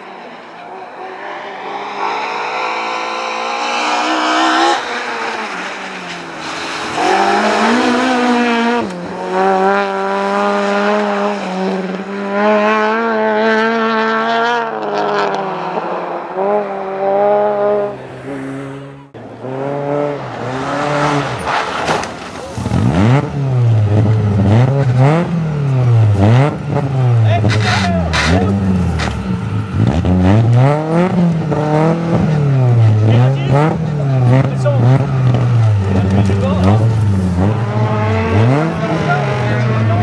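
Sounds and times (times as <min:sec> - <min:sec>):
car engine starting: 0:00.0 - 0:40.0
rally car engine revving: 0:00.0 - 0:40.0.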